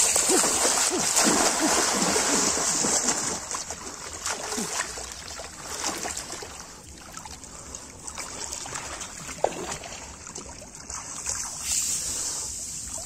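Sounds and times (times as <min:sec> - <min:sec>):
muddy water sloshing: 0:00.0 - 0:11.6.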